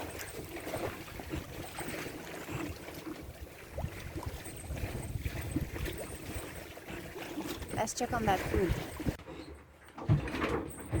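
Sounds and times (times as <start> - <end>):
wind buffeting microphone: 0.0 - 9.2
moving water: 0.0 - 11.0.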